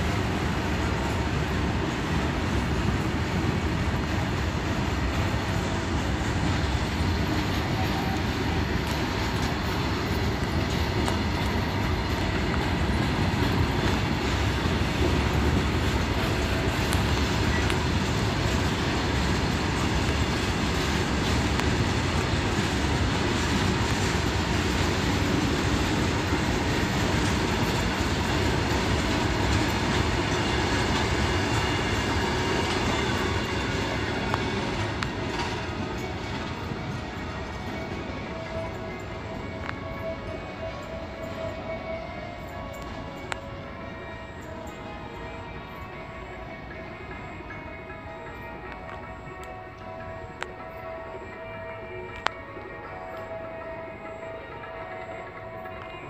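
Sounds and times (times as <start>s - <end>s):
goods train rolling past: 0.0s - 56.0s.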